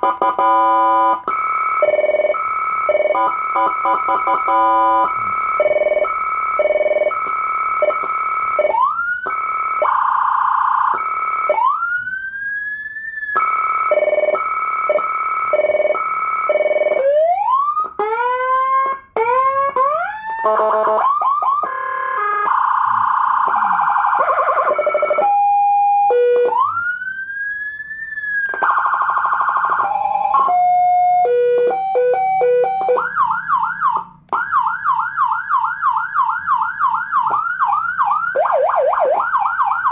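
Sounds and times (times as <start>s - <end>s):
electronic siren tones: 0.0s - 39.9s.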